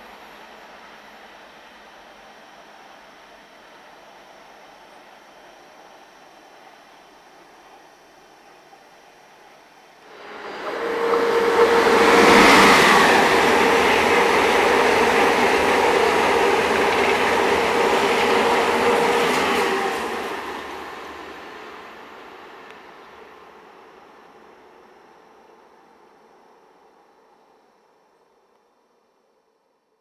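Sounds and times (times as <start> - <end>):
electric train passing at speed: 0.0 - 28.2.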